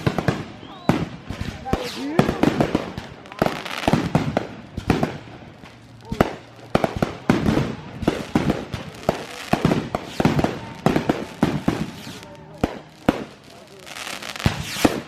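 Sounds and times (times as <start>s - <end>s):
fireworks booming and cracking: 0.0s - 15.0s.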